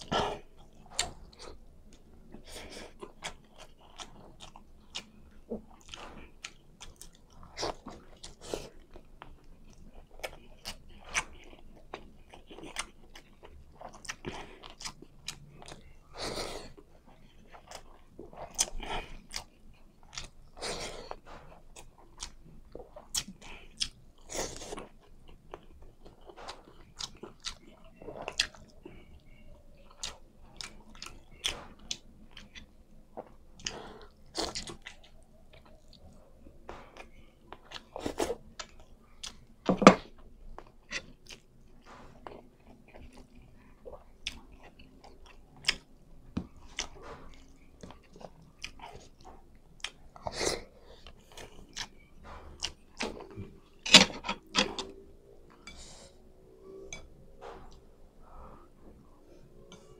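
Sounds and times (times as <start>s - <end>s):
wet chewing and lip-smacking: 0.0s - 16.0s, 16.7s - 57.9s.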